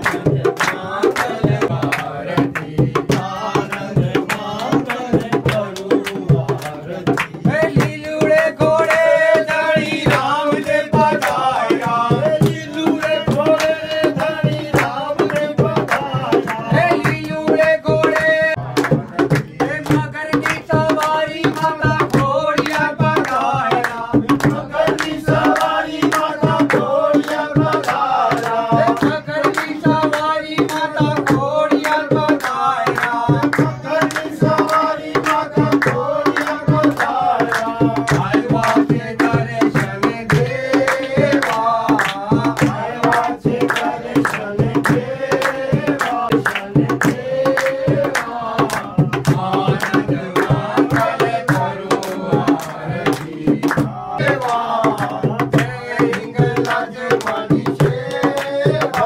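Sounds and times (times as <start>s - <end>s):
devotional song singing: 0.0s - 59.0s
hand drum rhythm: 0.0s - 59.0s.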